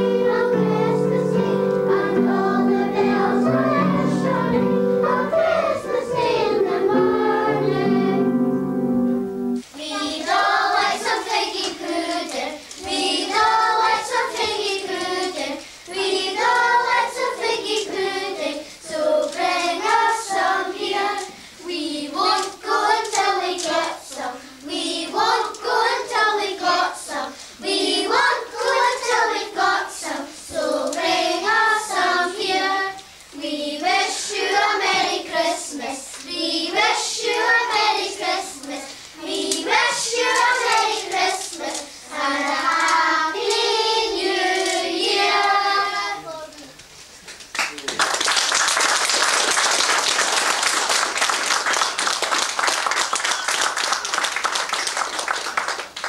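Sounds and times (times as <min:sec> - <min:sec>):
children singing together: 0:00.0 - 0:46.7.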